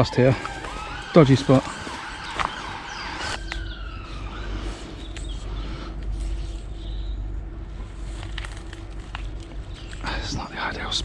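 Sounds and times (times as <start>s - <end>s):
distant road traffic rumble: 0.0s - 11.0s
faint steady hum: 0.0s - 11.0s.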